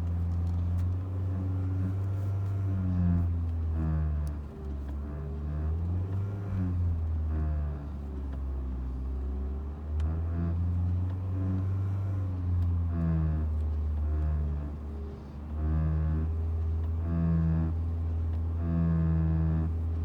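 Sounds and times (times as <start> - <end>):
car engine revving steadily: 0.0 - 20.0.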